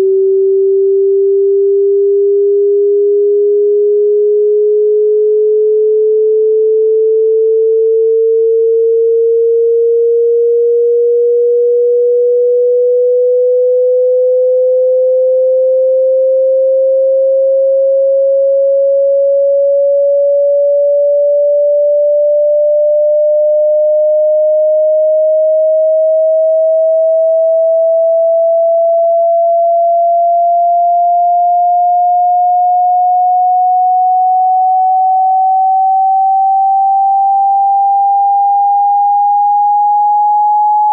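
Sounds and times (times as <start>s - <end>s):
sine tone rising in pitch: 0.0s - 40.9s.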